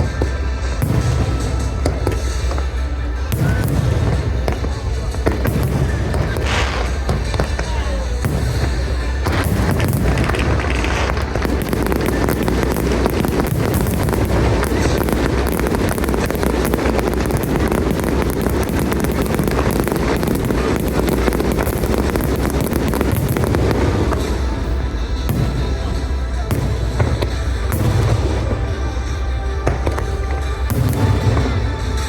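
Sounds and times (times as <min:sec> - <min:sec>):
fireworks bursting and crackling: 0:00.0 - 0:32.0
music playing: 0:00.0 - 0:32.0.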